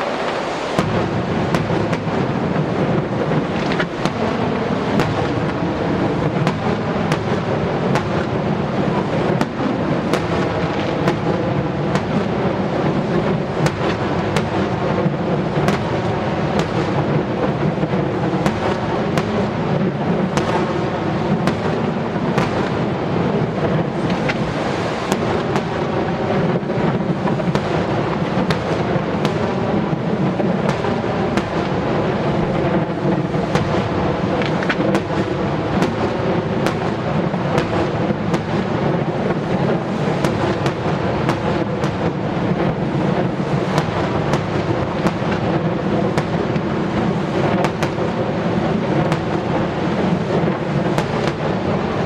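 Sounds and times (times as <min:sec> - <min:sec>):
fireworks crackles: 0:00.0 - 0:52.0
fireworks rumbling bursts: 0:00.0 - 0:52.0.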